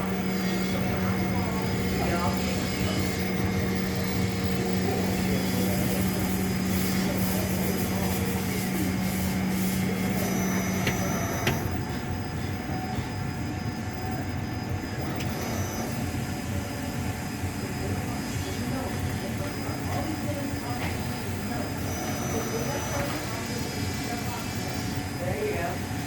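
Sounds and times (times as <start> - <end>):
milling machine motor hum: 0.0 - 26.0.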